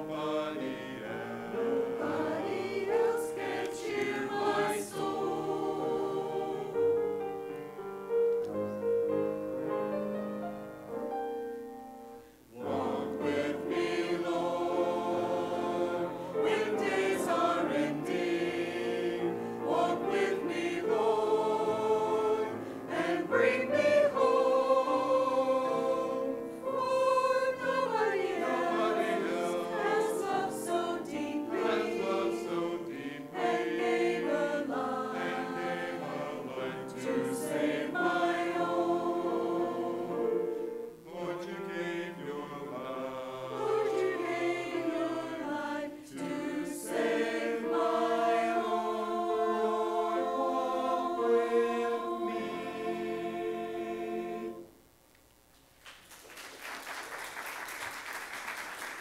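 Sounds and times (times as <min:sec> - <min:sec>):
mixed choir singing: 0:00.0 - 0:07.6, 0:12.5 - 0:54.8.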